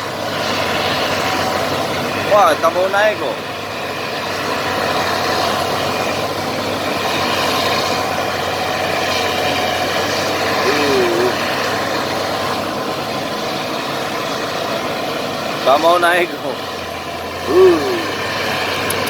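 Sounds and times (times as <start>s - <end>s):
bulldozer diesel engine straining: 0.0s - 19.0s.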